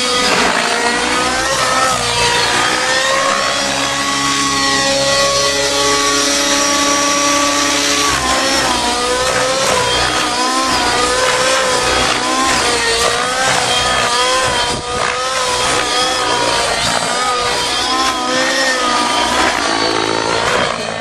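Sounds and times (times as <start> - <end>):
model helicopter rotor whine: 0.0 - 21.0.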